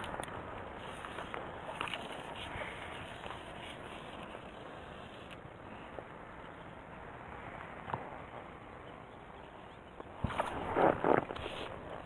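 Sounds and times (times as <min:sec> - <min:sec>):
even outdoor hiss: 0:00.0 - 0:12.0.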